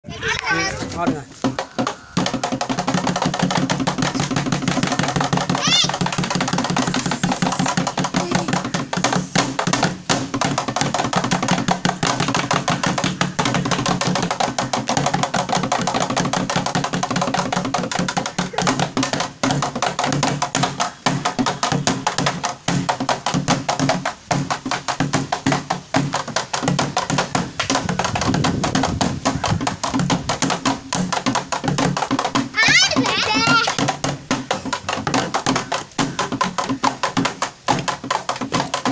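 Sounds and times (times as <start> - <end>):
sticks beating plastic cans: 1.0 - 38.9.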